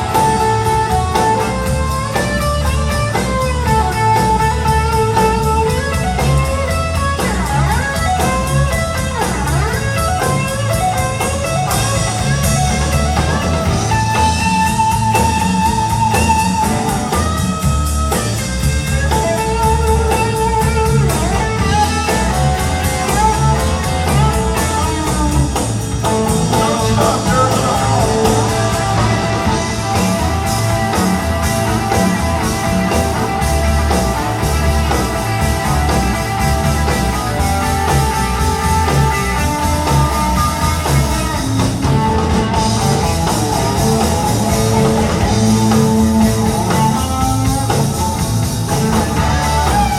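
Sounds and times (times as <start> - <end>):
live band playing instrumental: 0.0 - 49.9.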